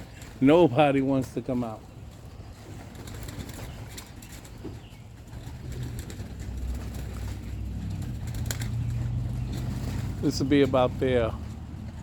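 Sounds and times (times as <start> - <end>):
pigeons cooing: 1.9 - 12.0.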